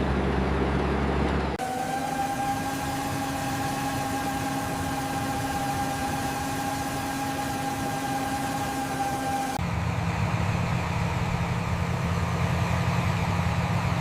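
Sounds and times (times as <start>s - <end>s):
construction machine engine whining: 0.0s - 14.0s
lower-pitched engine: 0.0s - 14.0s.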